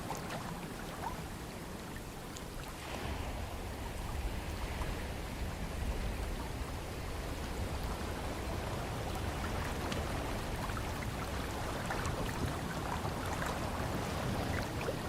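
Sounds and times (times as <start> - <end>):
ocean water washing: 0.0 - 15.0.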